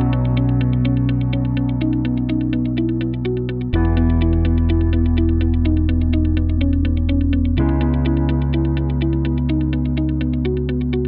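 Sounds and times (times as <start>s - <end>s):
background music with ticking beat: 0.0s - 11.0s.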